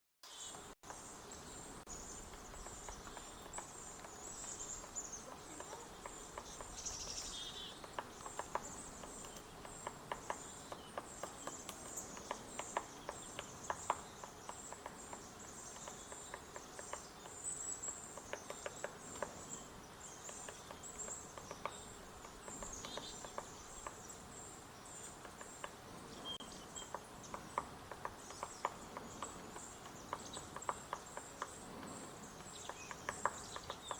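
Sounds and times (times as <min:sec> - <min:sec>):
woodpecker tapping on wood: 0:01.9 - 0:24.2, 0:25.0 - 0:33.9.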